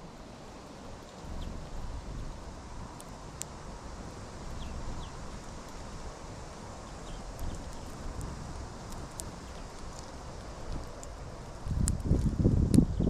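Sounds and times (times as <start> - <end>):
wind rumble on microphone: 0.0 - 13.0
bird pecking seed husks: 0.2 - 13.0.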